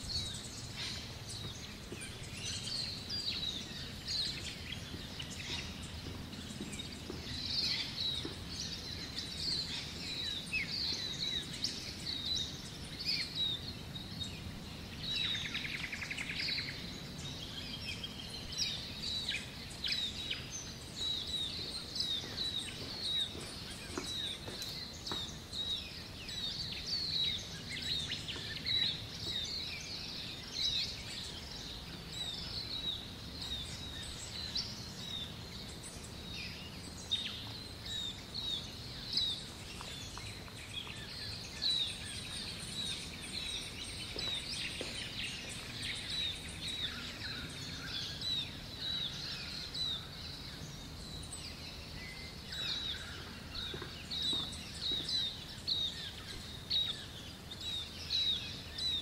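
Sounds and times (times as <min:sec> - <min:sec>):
birds chirping: 0:00.0 - 0:59.0
steady background hiss: 0:00.0 - 0:59.0.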